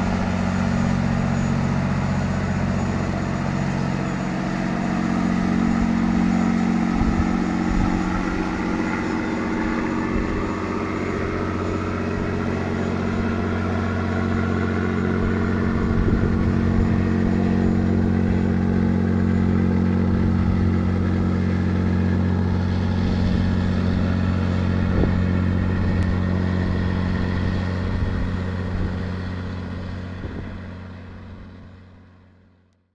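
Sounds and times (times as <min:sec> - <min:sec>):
boat diesel engine droning: 0:00.0 - 0:32.9.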